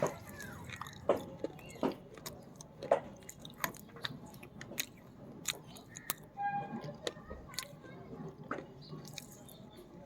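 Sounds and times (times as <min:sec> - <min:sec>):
chewing brittle clay crunches: 0:00.0 - 0:10.0.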